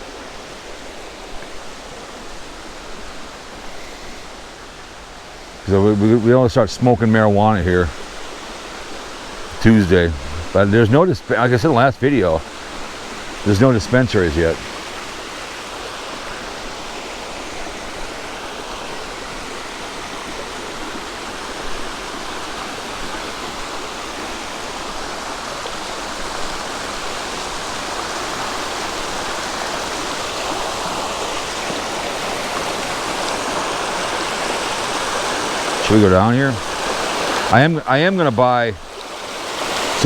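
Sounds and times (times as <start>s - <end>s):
creek water rushing: 0.0s - 40.0s.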